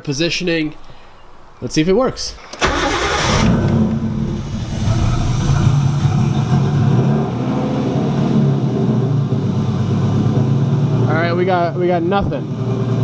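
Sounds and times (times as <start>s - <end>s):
car engine idling: 2.4s - 13.0s.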